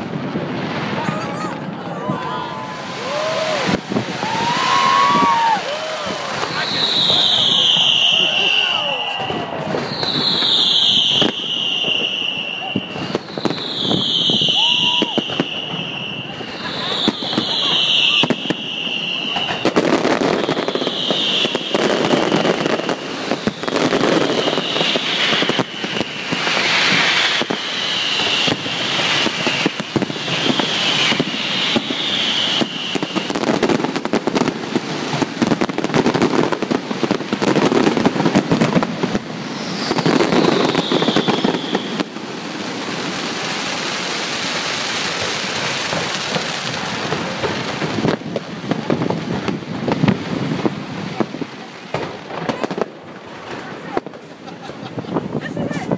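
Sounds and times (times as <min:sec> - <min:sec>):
fireworks bangs and crackling: 0:00.0 - 0:55.9
falling firework whistles: 0:00.7 - 0:50.8.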